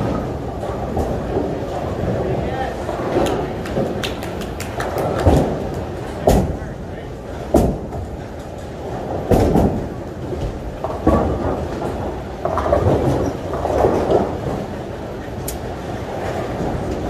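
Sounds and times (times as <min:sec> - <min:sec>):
bowling balls rolling: 0:00.0 - 0:17.0
bowling pins clattering: 0:00.0 - 0:17.0.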